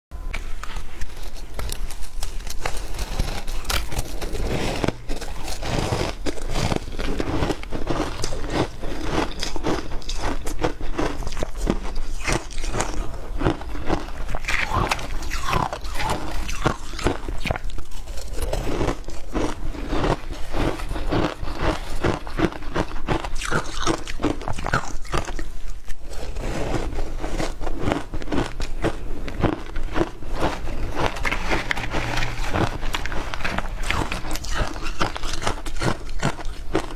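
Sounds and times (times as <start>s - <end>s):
person chewing ice: 0.3s - 36.9s.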